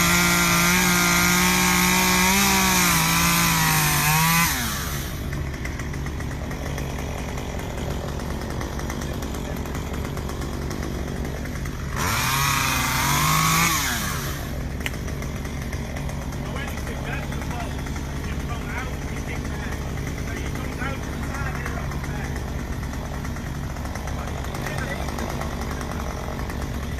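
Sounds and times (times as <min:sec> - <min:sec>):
small engine revving and idling: 0:00.0 - 0:26.9.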